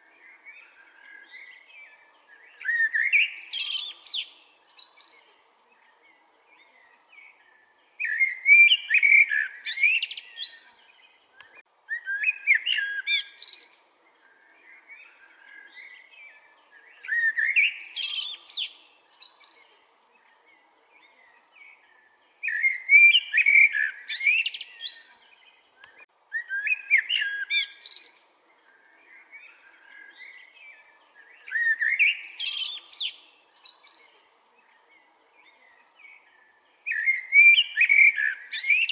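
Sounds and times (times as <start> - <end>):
songbird singing warbled phrases: 0.0 - 38.9.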